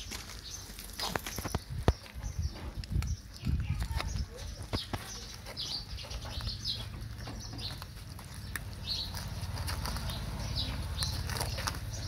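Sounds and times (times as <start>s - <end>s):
puppies chewing and lapping: 0.0s - 12.0s.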